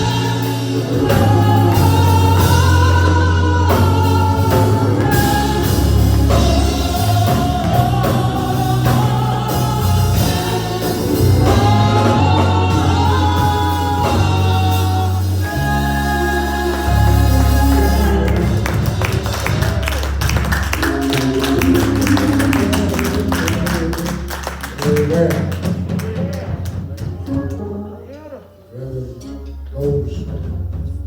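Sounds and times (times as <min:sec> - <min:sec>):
gospel choir singing: 0:00.0 - 0:29.6
instrumental accompaniment: 0:00.0 - 0:31.0.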